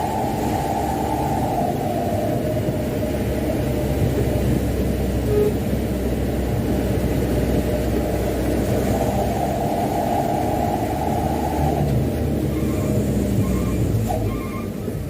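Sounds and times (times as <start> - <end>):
road noise: 0.0 - 15.0
truck diesel engine running: 0.0 - 15.0.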